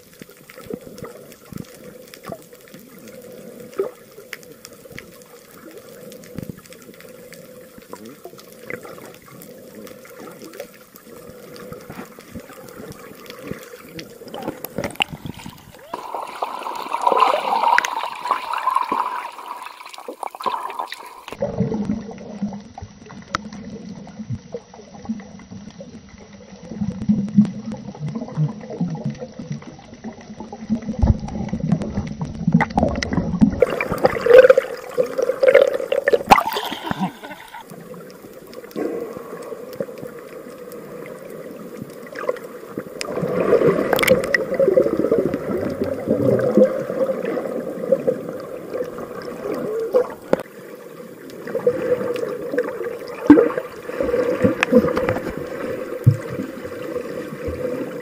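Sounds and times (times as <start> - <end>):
underwater rushing and gurgling: 0.0 - 58.0
water bubbling and sloshing: 0.0 - 58.0.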